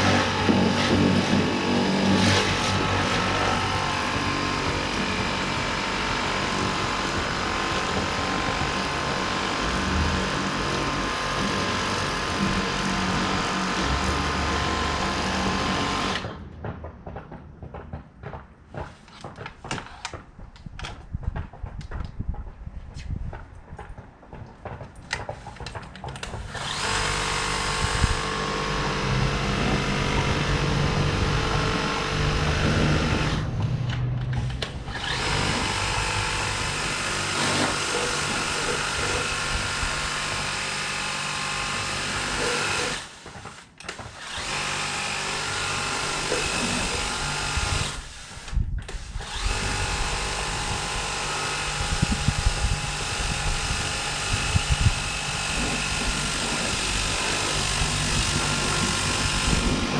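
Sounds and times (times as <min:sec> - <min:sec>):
pressure washer motor humming: 0:00.0 - 0:16.4, 0:26.2 - 0:59.9.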